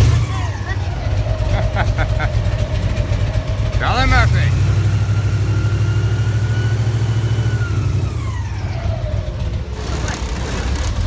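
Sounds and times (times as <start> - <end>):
airboat engine droning: 0.0 - 11.0.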